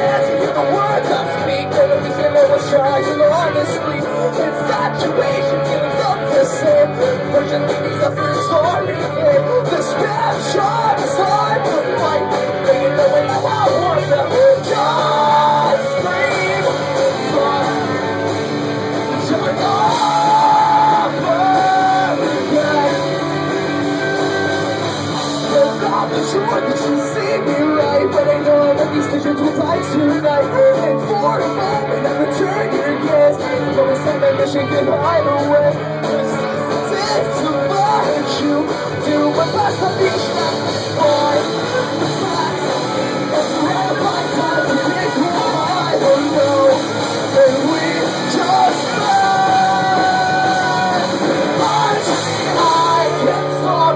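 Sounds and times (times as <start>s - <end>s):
drums: 0.0s - 53.9s
electric guitars: 0.0s - 53.9s
person singing: 0.0s - 53.9s.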